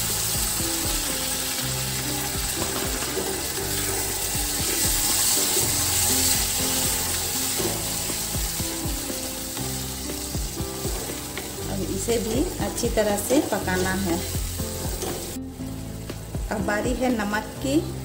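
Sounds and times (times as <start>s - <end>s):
tomato paste sizzling in hot oil: 0.0s - 18.0s.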